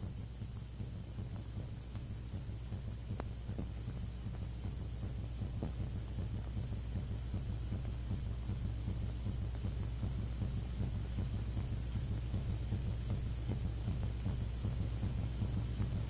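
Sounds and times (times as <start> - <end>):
faint crackling ticks: 0.1 - 16.0.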